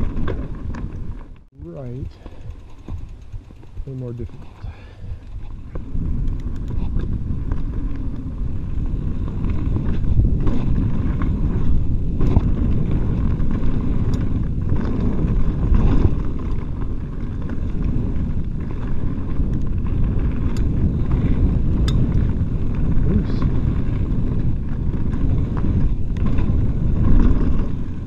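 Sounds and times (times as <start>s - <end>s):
bike clattering over bumps: 0.0s - 28.0s
tyres rolling on dirt: 0.0s - 28.0s
wind on microphone: 0.0s - 28.0s.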